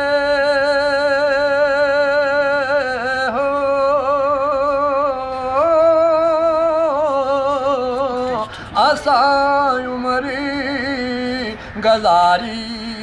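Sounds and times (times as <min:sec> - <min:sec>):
old man singing unaccompanied: 0:00.0 - 0:13.0.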